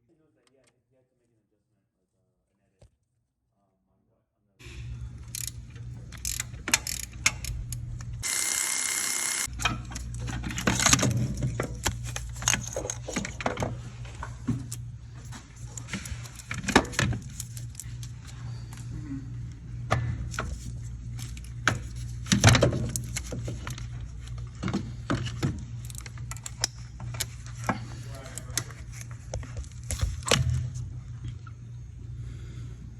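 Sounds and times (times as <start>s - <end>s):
steady low hum: 4.6s - 32.9s.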